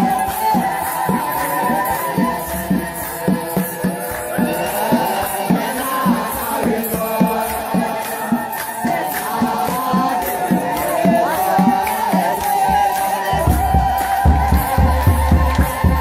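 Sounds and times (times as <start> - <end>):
congregation chanting: 0.0 - 16.0
drum beating: 0.0 - 16.0.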